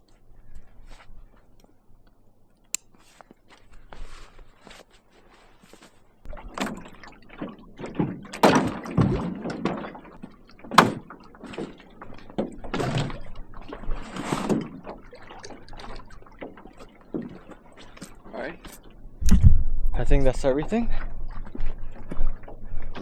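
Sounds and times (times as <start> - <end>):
camping gear clunking and rustling: 0.0 - 19.0.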